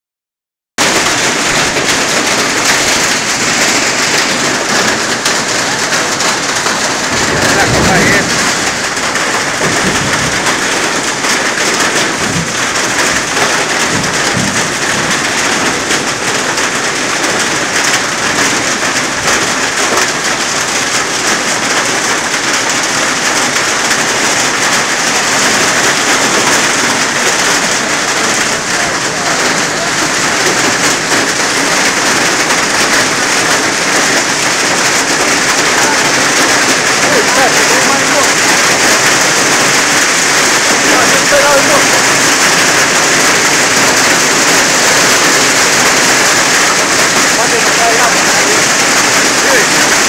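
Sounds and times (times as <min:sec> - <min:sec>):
heavy rain on pavement: 0:00.8 - 0:50.0.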